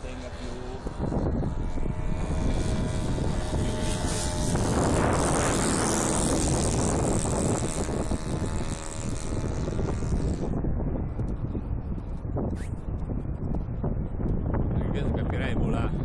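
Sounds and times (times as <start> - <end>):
model plane engine and propeller: 0.0 - 16.0
wind noise on microphone: 0.0 - 16.0.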